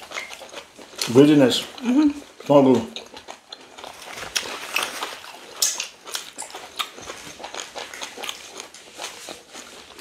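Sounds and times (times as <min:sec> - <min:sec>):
wet chewing and lip-smacking: 0:00.0 - 0:10.0.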